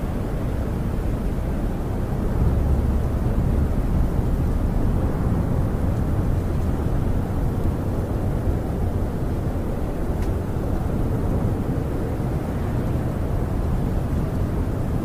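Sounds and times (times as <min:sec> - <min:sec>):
snowstorm wind gusts: 0:00.0 - 0:15.0.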